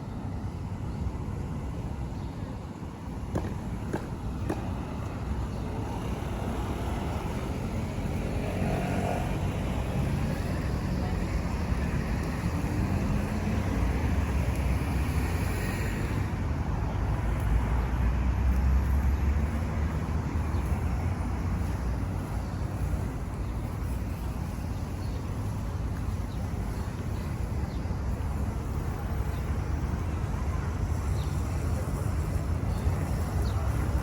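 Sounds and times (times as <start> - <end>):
passing cars rumbling: 3.1 - 34.0.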